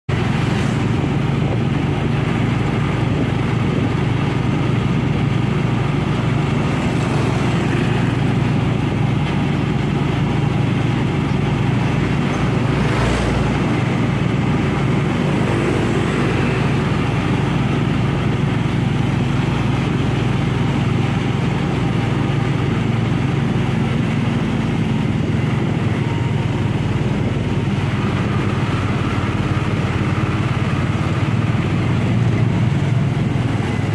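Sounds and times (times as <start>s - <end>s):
truck engine running under load: 0.1s - 33.9s.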